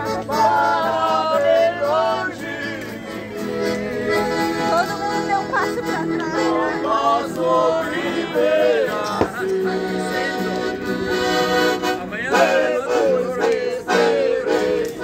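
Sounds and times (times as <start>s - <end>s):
acoustic guitar: 0.0s - 14.8s
accordion playing a tune: 0.0s - 15.0s
voices singing along: 0.0s - 15.0s.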